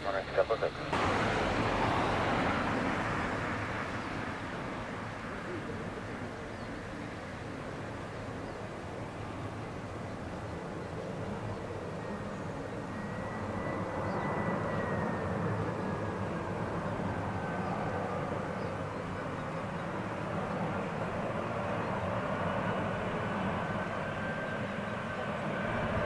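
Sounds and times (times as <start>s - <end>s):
jet airliner engine rumble: 0.0s - 26.0s.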